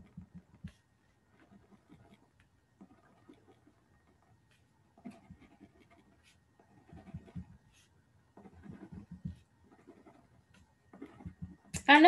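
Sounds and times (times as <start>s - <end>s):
marker scratching on paper: 0.0s - 11.7s.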